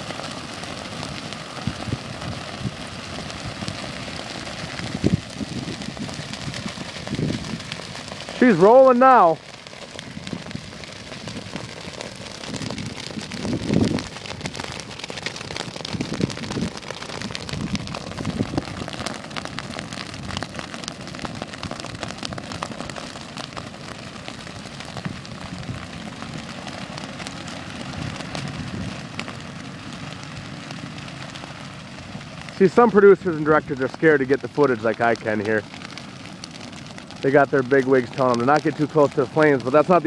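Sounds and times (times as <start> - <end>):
grass fire crackling: 0.0 - 40.0.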